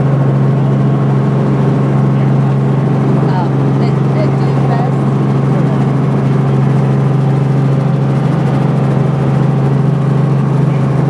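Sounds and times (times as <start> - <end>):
helicopter engine and rotor: 0.0 - 11.0.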